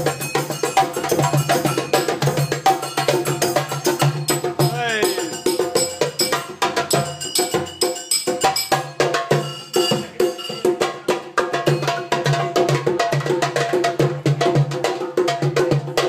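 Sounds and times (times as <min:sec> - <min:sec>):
hand drum struck rapidly: 0:00.0 - 0:16.0.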